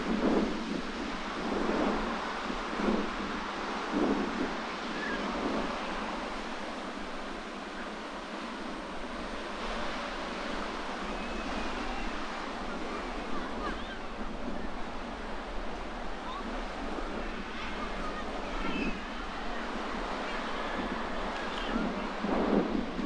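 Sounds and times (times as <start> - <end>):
sea waves washing on shore: 0.0 - 23.0
wind on microphone: 0.0 - 23.0.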